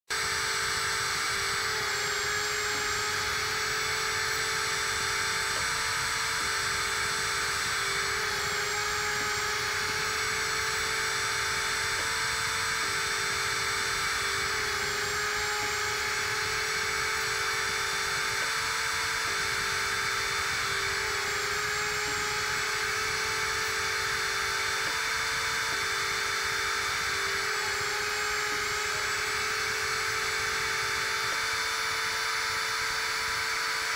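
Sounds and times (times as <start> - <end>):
drill spindle whining: 0.0 - 33.9.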